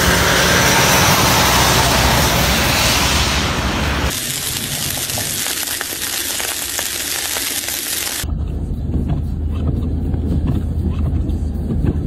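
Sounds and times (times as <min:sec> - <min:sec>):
vehicle driving on snowy road: 0:00.0 - 0:12.0.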